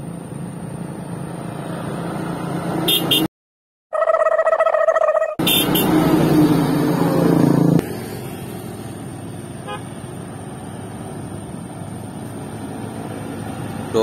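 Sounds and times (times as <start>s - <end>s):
distant road traffic hum: 0.0s - 3.3s, 4.0s - 14.0s
truck diesel engine passing: 0.0s - 3.3s, 5.3s - 14.0s.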